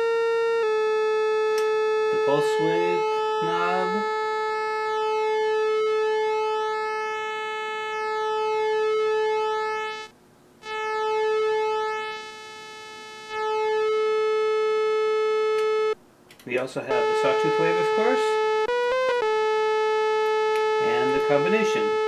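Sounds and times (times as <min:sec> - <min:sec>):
synthesizer sustained note: 0:00.0 - 0:16.0, 0:16.9 - 0:22.0.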